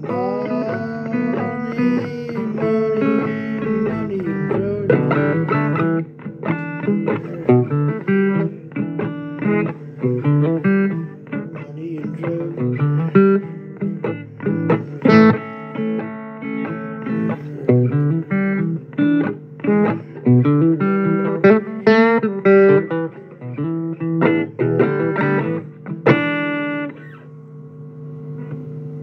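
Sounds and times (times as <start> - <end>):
blues guitar picking: 0.0 - 29.0.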